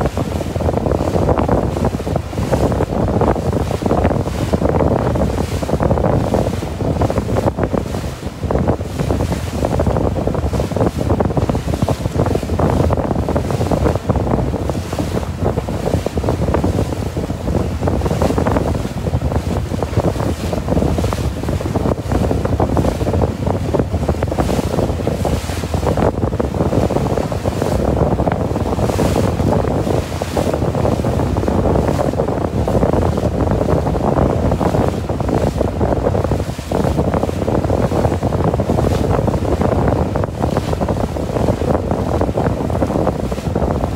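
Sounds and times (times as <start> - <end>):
boat wake water rushing: 0.0 - 43.9
wind buffeting microphone: 0.0 - 43.9.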